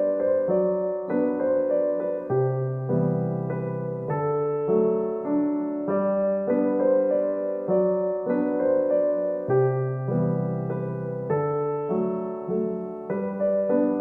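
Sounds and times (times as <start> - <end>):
gentle slow piano piece: 0.0 - 14.0.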